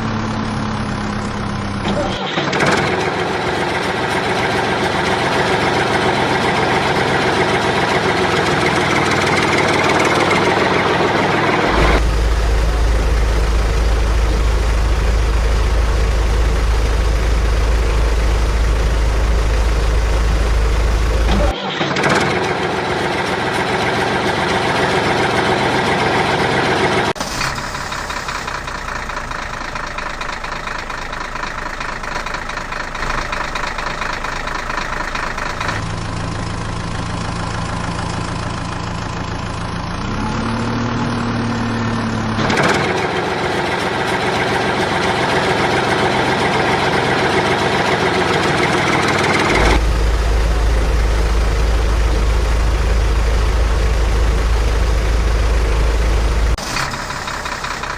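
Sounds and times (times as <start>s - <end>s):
heavy vehicle engines running: 0.0s - 57.9s.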